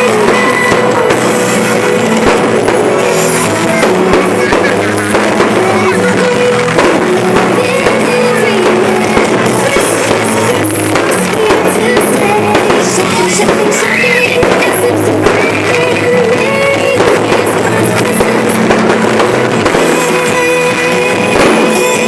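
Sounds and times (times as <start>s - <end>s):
fireworks popping and crackling: 0.0s - 22.0s
rock music with singing: 0.0s - 22.0s.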